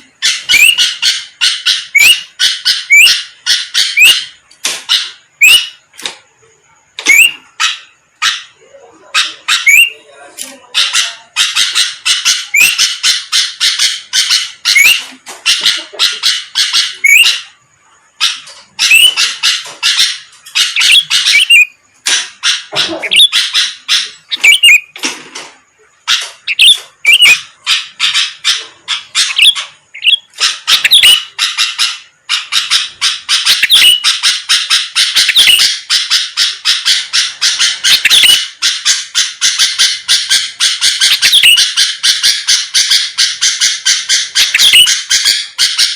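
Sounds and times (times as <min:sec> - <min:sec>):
bird singing rapid chatter: 0:00.0 - 0:45.9.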